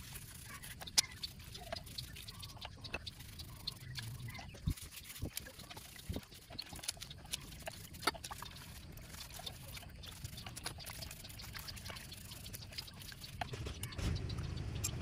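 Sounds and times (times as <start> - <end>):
brush scrubbing engine parts: 0.0 - 14.4
liquid sloshing and dripping: 0.0 - 14.4
small scratches and clicks: 0.0 - 15.0.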